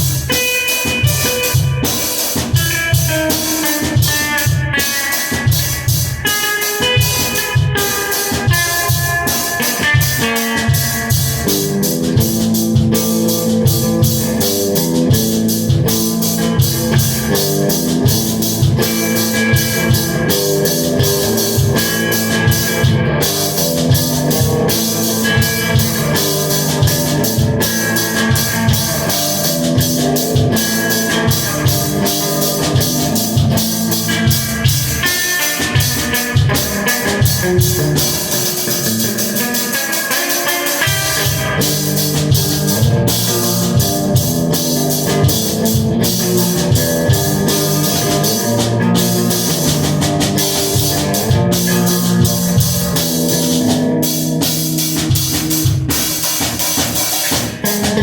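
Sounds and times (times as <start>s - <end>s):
drum beat: 0.0s - 58.0s
rock guitar: 0.0s - 58.0s.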